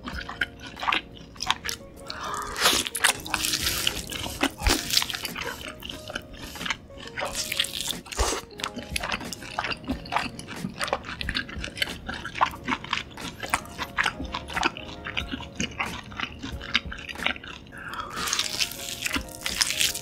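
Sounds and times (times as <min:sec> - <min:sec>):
chewing with wet mouth clicks: 0:00.0 - 0:20.0
faint background music: 0:00.0 - 0:20.0.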